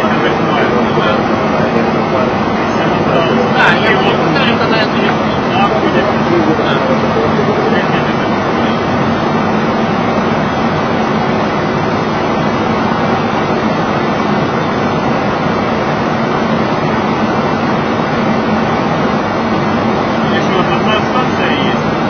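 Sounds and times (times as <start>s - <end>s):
constant rush of air: 0.0s - 22.0s
low even hum: 0.0s - 22.0s.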